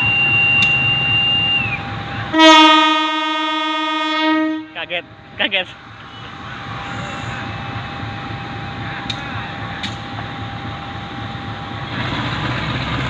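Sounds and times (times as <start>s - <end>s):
passing train rumbling: 0.0s - 13.0s.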